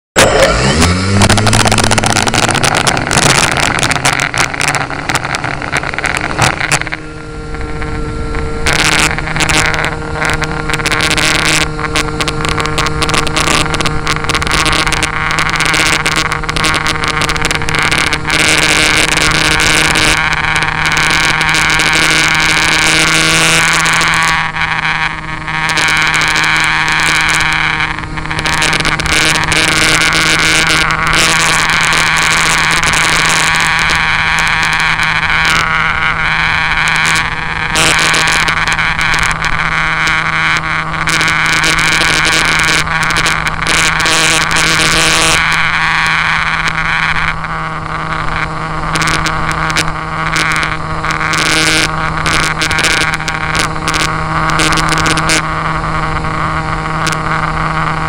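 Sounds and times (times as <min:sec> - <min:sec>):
model plane motor whine: 0:00.2 - 0:58.0.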